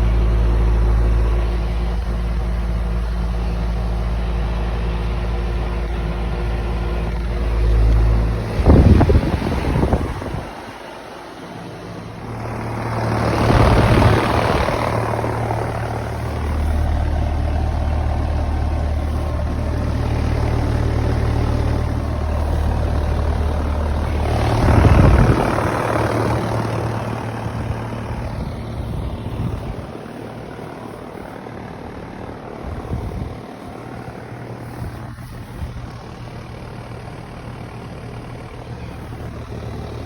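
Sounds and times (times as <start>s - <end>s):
condenser fan rushing: 0.0s - 40.0s.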